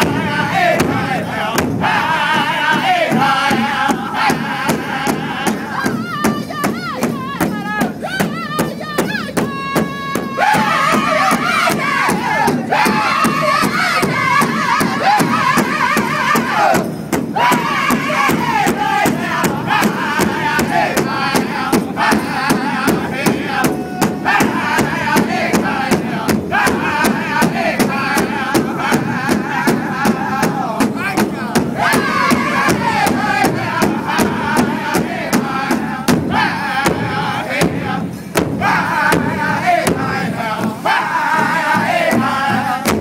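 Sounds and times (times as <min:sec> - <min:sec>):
drum steady beat: 0:00.0 - 0:43.0
singers chanting: 0:00.0 - 0:43.0.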